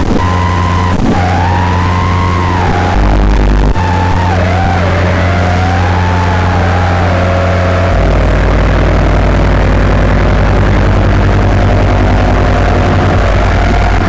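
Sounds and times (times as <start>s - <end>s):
motor low hum: 0.0s - 14.0s
propeller wavering whine: 0.0s - 14.0s.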